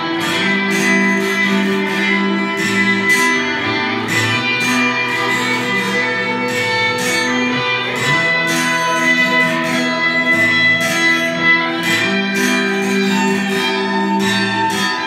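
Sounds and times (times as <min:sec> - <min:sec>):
guitar-led instrumental music: 0:00.0 - 0:15.0.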